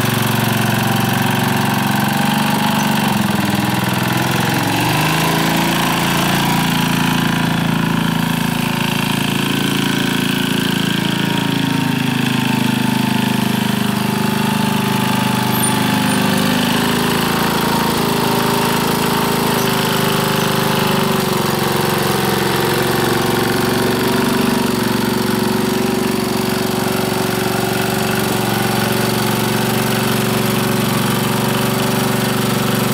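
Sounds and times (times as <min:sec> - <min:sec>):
small tractor engine running: 0:00.0 - 0:32.9.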